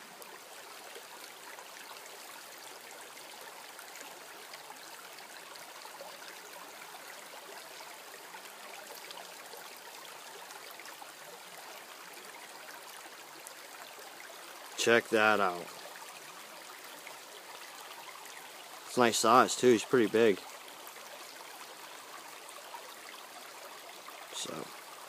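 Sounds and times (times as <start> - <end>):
creek water babbling over stones: 0.0 - 25.0.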